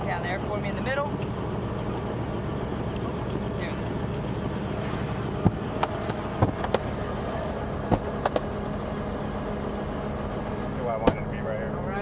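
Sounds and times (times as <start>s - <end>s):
helicopter idling hum: 0.0s - 12.0s.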